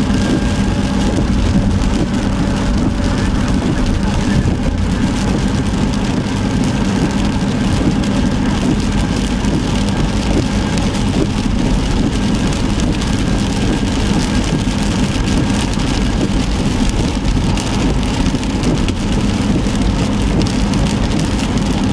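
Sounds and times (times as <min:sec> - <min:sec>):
heavy rain on windshield: 0:00.0 - 0:21.9
low engine drone: 0:00.0 - 0:21.9
tyre noise on wet road: 0:00.0 - 0:21.9.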